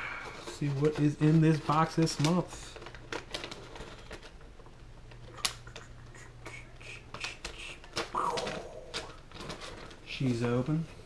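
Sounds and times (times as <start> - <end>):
packaging rustling: 0.1 - 6.2, 6.8 - 11.0.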